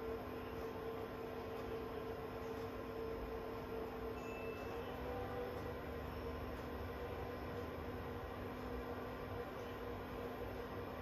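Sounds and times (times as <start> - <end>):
server cooling fans whirring: 0.0 - 11.0
steady two-note hum: 0.0 - 11.0.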